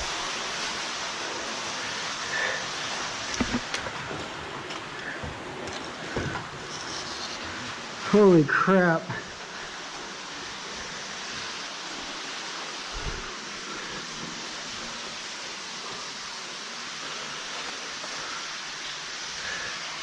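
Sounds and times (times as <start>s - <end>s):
waterfall rushing in a cave: 0.0s - 20.0s.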